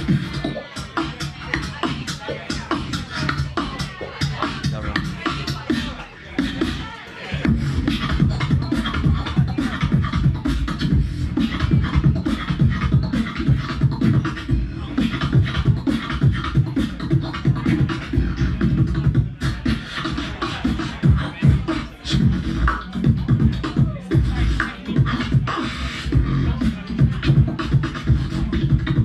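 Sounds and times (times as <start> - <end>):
person beatboxing into a microphone: 0.0 - 29.0.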